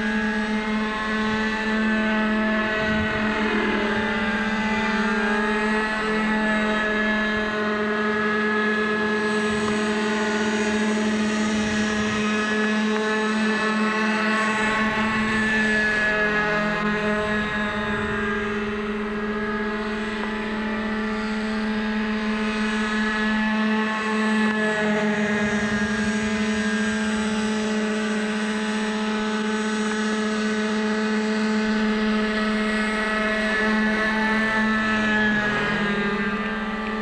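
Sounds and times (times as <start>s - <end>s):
model helicopter engine: 0.0s - 37.0s.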